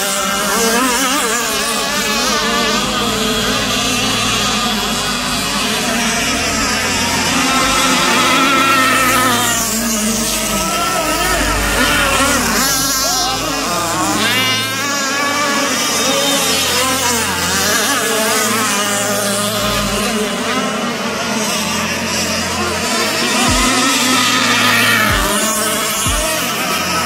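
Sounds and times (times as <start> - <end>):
radio-controlled powerboat motors whining: 0.0 - 27.0.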